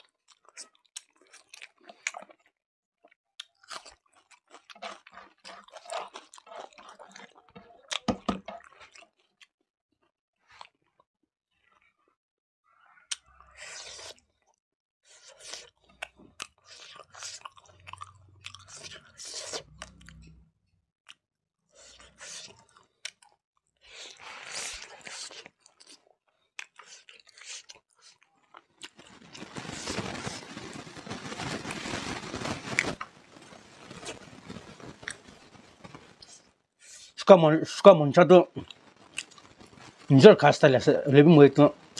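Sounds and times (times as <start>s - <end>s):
person chewing with crisp crunches: 0.0s - 9.6s, 13.1s - 20.4s, 21.0s - 41.9s.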